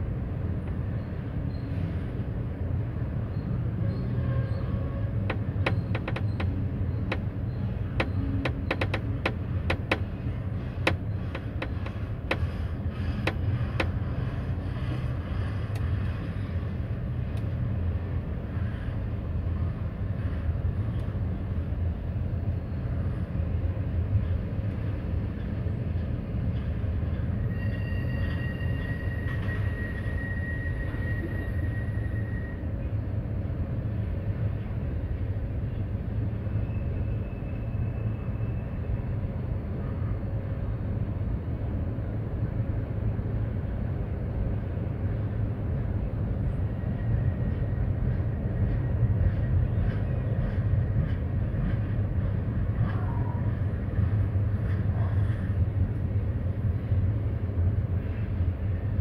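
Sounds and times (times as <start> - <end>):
train cars rumbling past: 0.0 - 59.0.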